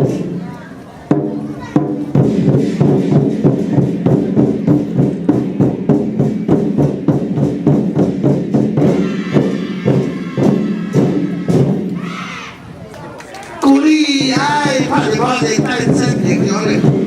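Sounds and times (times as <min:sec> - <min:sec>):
drum beaten fast: 0:01.1 - 0:12.5, 0:13.6 - 0:17.0.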